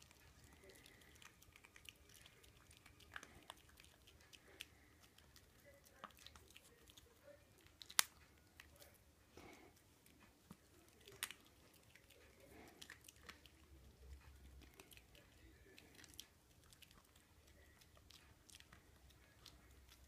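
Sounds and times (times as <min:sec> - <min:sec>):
dog crunching a biscuit: 0:00.0 - 0:20.0.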